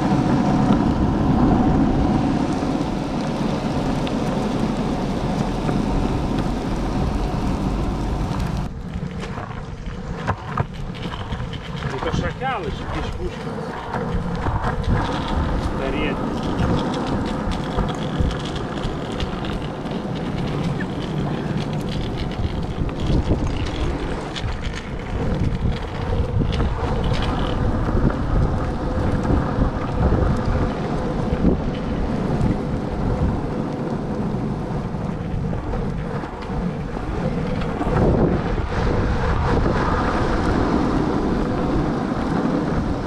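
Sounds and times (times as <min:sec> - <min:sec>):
wheels rolling over pavement: 0:00.0 - 0:43.0
wind buffeting microphone: 0:00.0 - 0:43.0.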